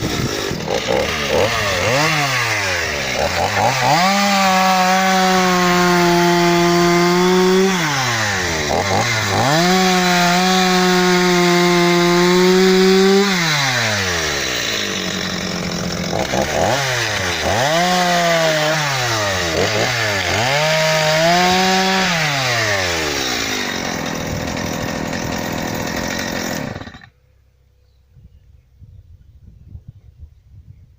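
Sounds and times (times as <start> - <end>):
chainsaw engine revving: 0.0 - 27.1.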